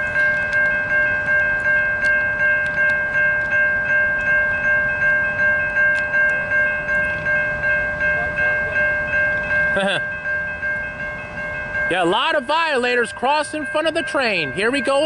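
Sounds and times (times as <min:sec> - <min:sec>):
railroad crossing bells ringing: 0:00.0 - 0:15.0.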